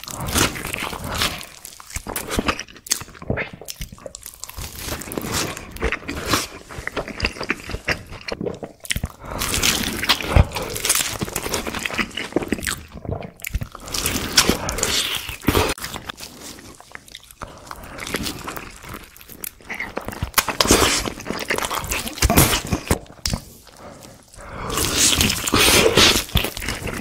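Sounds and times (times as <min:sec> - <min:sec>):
chewing: 0:00.0 - 0:27.0.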